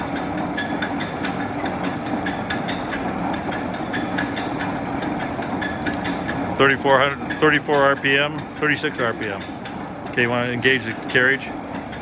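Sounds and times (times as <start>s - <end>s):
lathe gear-driven hum: 0.0s - 12.0s
repeating lathe click: 0.0s - 12.0s.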